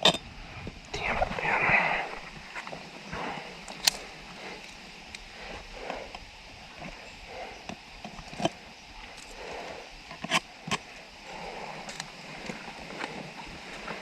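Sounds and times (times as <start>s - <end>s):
low scraping and rustling: 0.0s - 14.0s.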